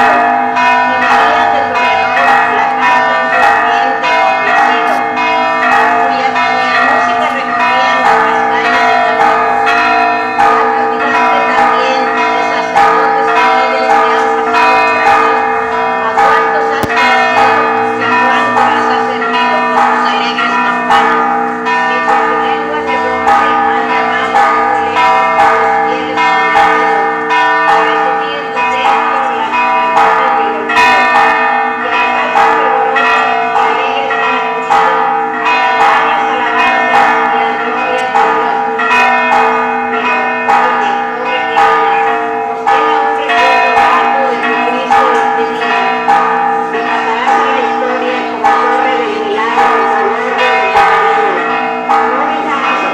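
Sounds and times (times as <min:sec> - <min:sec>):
church bells pealing: 0:00.0 - 0:52.9.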